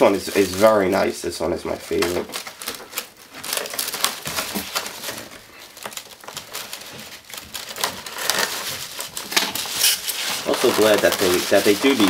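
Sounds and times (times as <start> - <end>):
plastic case rustling and crackling: 1.7 - 12.0.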